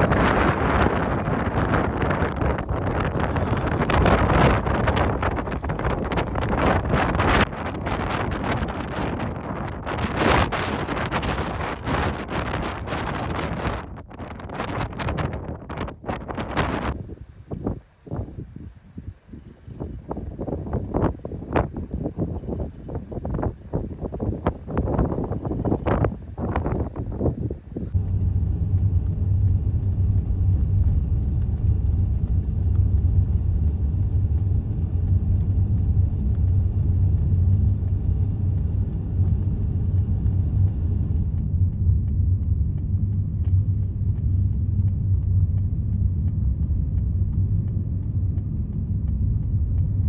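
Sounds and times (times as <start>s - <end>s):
road noise hiss: 0.0s - 13.8s, 16.4s - 46.8s
vehicle engine rumble: 0.0s - 50.0s.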